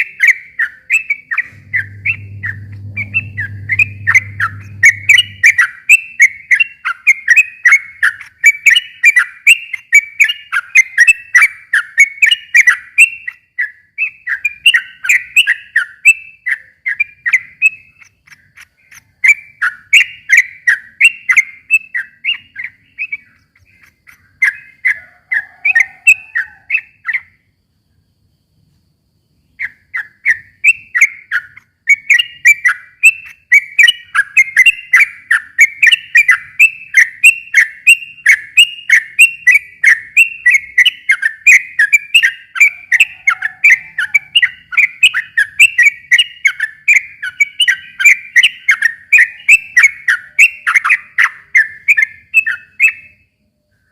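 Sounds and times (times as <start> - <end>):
bird singing chattering notes: 0.0 - 27.4, 29.4 - 53.3.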